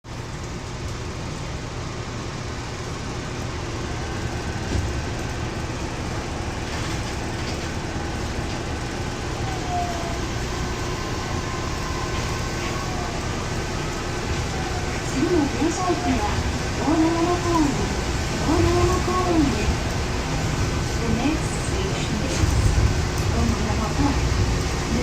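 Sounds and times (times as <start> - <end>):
monorail car running rumble: 0.0 - 25.0.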